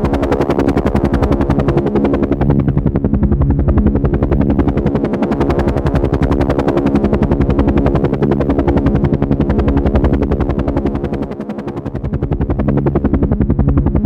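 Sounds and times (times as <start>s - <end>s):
helicopter rotor beating: 0.0s - 14.0s
steady engine hum: 0.0s - 14.0s.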